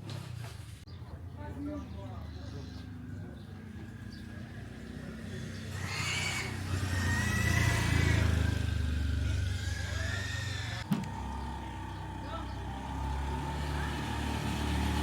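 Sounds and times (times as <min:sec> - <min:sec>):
vehicle engine passing by: 0:02.4 - 0:15.0.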